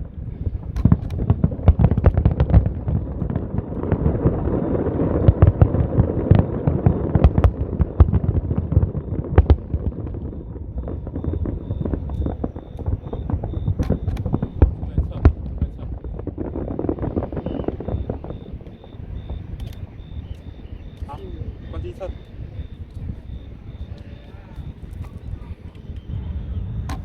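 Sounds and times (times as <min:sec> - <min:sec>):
fireworks bangs and crackles: 0:00.0 - 0:27.0
low rumble: 0:00.0 - 0:27.0.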